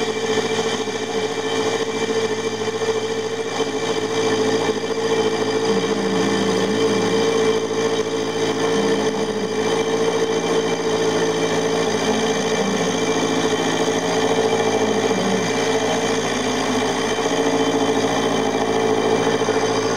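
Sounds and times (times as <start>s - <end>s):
milling machine cutting metal: 0.0s - 19.9s.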